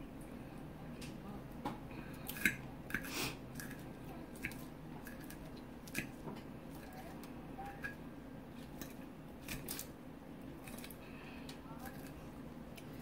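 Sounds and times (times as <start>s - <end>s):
wet chewing: 1.9s - 13.0s.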